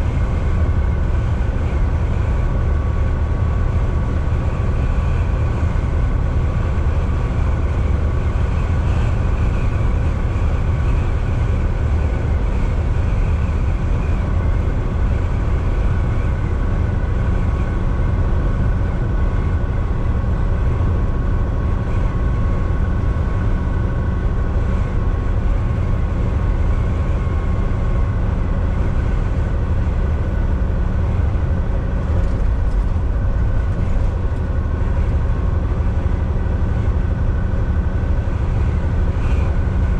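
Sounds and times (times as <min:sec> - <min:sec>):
faint steady whine: 0:00.0 - 0:39.9
road noise: 0:00.0 - 0:39.9
truck engine drone: 0:00.0 - 0:39.9.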